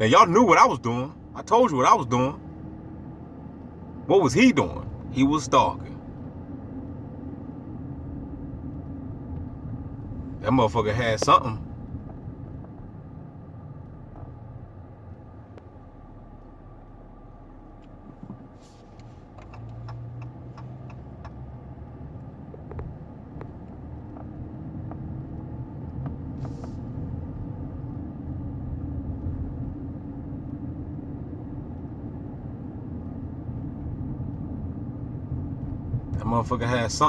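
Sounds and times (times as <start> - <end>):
car engine rumble: 0.0 - 37.0.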